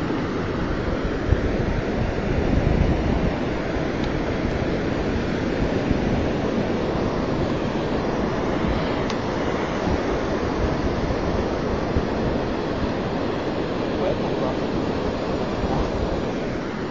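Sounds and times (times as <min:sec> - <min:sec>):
surf breaking on beach: 0:00.0 - 0:16.9
wind buffeting microphone: 0:00.0 - 0:16.9.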